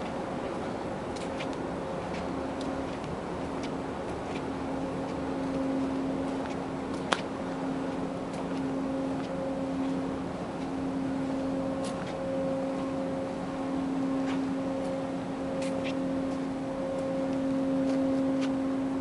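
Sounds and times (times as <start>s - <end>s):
ship machinery hum: 0.0s - 19.0s.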